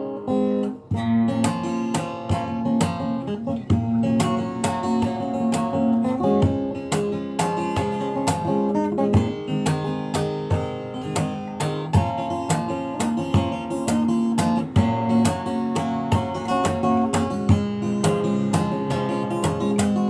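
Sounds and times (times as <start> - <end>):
fingerstyle acoustic guitar: 0.0 - 20.0.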